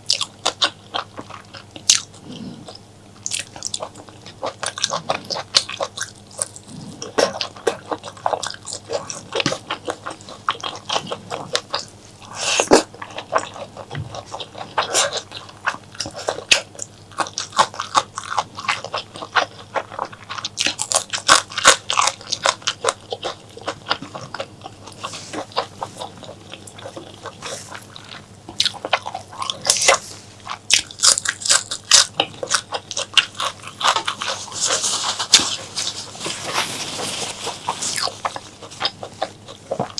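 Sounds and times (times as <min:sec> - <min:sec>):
wet chewing and mouth clicks: 0:00.0 - 0:39.9.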